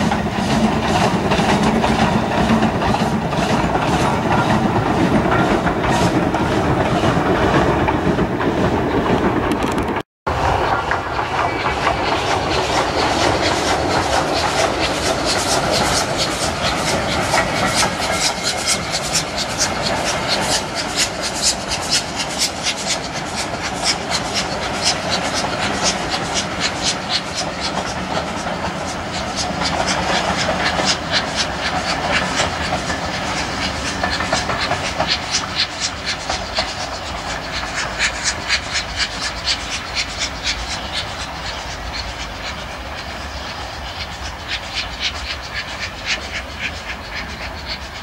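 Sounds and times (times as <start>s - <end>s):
train rumble: 0.0s - 48.0s
train wheels clicking over rail joints: 0.0s - 48.0s.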